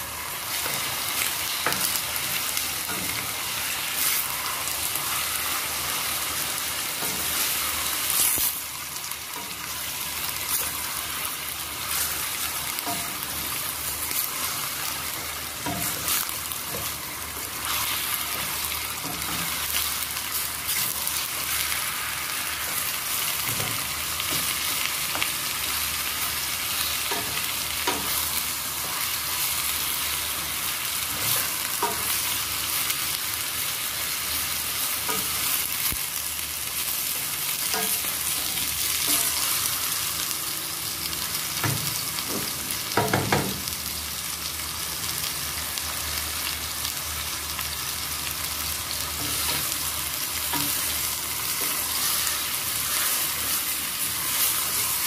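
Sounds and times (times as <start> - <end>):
chicken and onion sizzling: 0.0 - 55.0.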